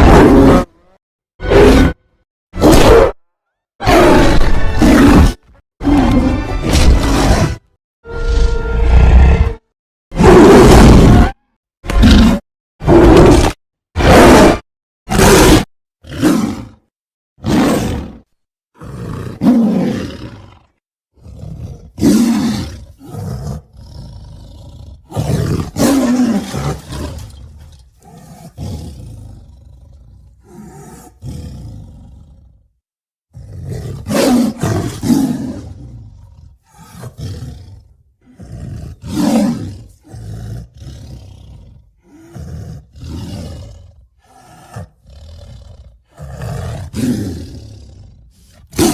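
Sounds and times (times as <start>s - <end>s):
monster roars and growls: 0.0s - 3.2s, 3.8s - 7.6s, 10.2s - 32.6s, 33.4s - 48.9s.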